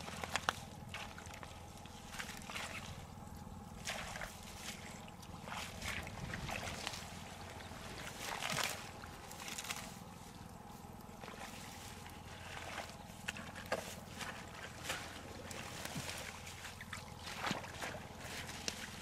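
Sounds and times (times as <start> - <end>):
plants rustling: 0.0 - 3.1, 3.8 - 19.0
wet mud squelches: 0.0 - 19.0.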